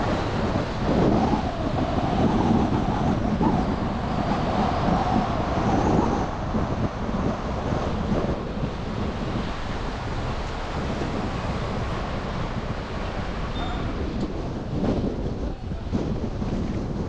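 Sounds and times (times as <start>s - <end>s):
car and tyres humming on road: 0.0s - 17.0s
wind buffeting microphone: 0.0s - 17.0s.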